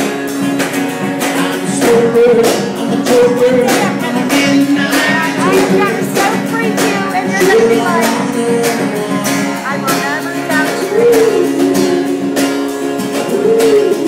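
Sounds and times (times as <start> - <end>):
acoustic guitar strumming: 0.0 - 14.0
drums keeping a steady beat: 0.0 - 14.0.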